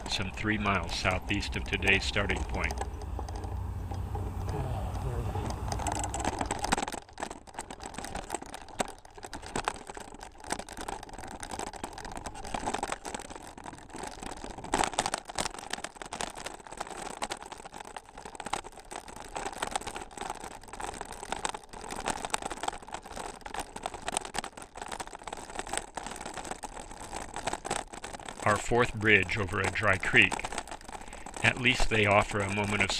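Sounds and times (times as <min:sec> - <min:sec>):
bicycle rattling and knocking: 0:00.0 - 0:32.9
bicycle tyres rolling: 0:00.0 - 0:32.9.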